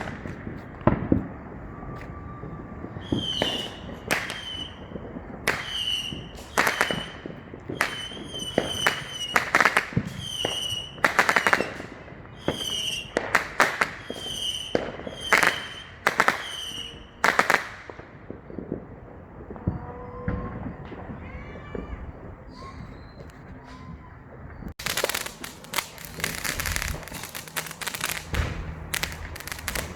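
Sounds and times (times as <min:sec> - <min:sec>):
firework whistle: 0:00.0 - 0:18.8, 0:19.5 - 0:24.1, 0:24.8 - 0:29.9
fireworks bangs: 0:00.0 - 0:29.9.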